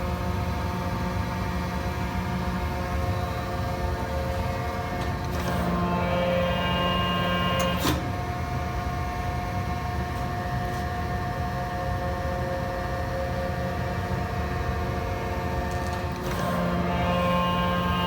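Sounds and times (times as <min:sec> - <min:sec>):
planer machine hum and whine: 0:00.2 - 0:18.0.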